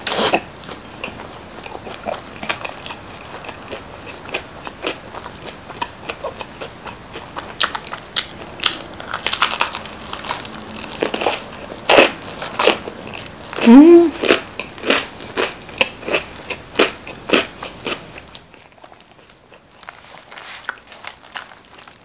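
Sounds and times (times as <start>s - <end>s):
chewing and crunching pizza crust: 0.0s - 22.0s.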